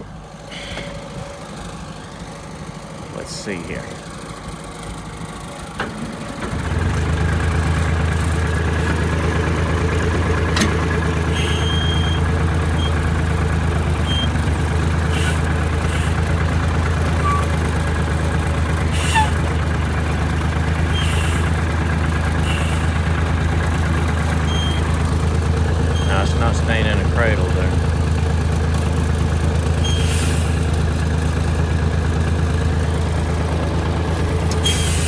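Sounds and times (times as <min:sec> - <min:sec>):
hydraulic pump and engine humming: 0:00.0 - 0:35.0.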